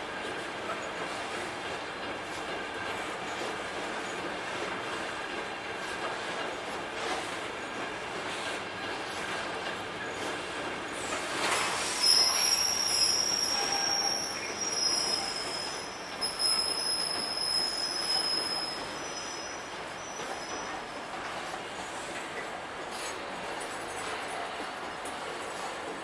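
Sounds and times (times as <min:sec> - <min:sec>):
train wheels squealing on rails: 0:00.1 - 0:26.0.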